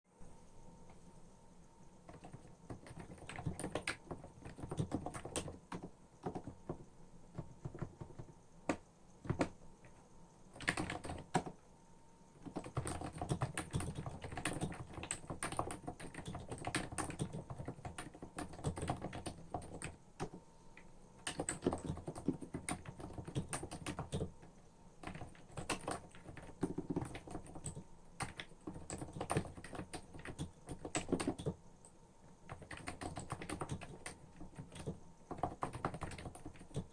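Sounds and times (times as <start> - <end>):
typing on keyboard: 2.0 - 11.6, 12.4 - 36.9.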